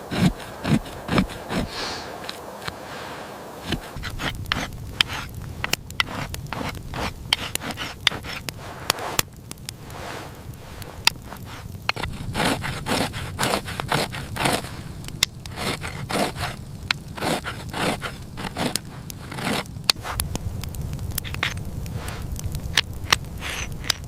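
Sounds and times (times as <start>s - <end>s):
hand scraping strokes: 0.0s - 20.4s, 21.2s - 24.0s.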